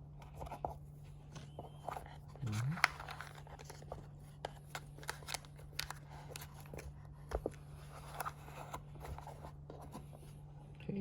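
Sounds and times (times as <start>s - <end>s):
box and paper packaging handled: 0.0s - 10.5s
low steady hum: 0.0s - 11.0s.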